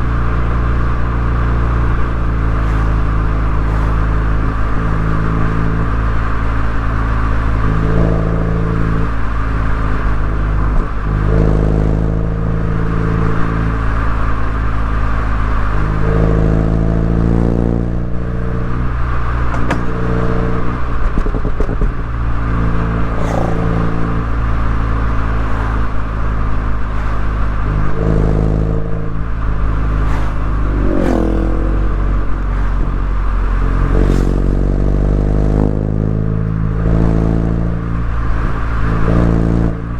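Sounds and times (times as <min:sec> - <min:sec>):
car engine and exhaust: 0:00.0 - 0:39.9
road and wind hiss: 0:00.0 - 0:39.9.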